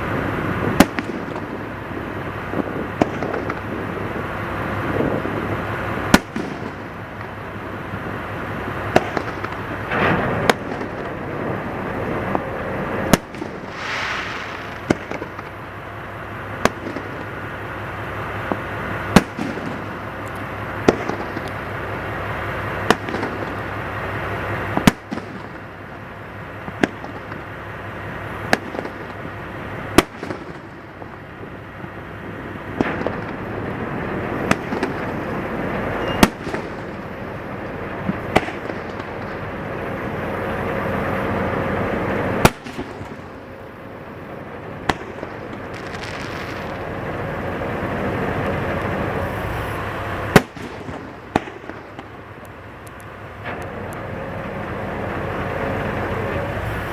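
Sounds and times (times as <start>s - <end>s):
fireworks bursting: 0.0s - 53.6s.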